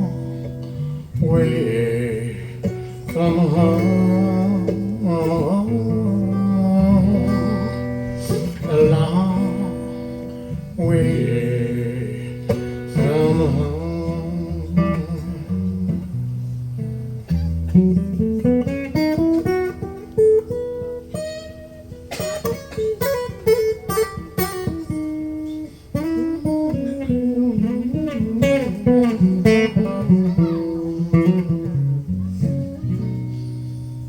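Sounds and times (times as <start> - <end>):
solo blues guitar: 0.0 - 34.0
strummed guitar chords: 0.0 - 34.0.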